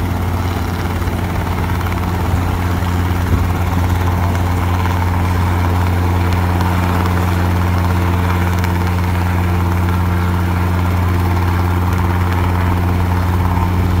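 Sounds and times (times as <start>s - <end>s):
helicopter hovering drone: 0.0s - 14.0s.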